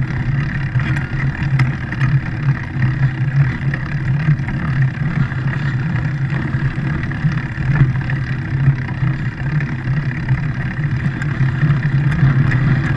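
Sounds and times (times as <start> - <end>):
small vehicle engine humming: 0.0 - 12.9.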